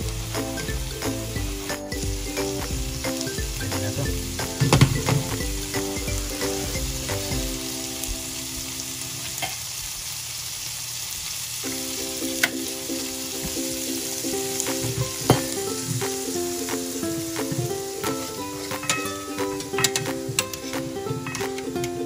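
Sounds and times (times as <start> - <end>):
carrots sizzling in a pan: 0.0 - 22.0.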